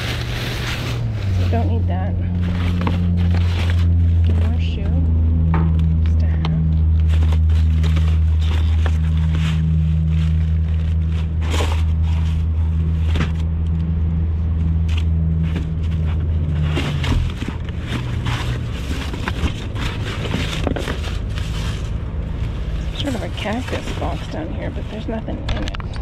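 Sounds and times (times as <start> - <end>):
items rummaged in dumpster: 0.0 - 26.0.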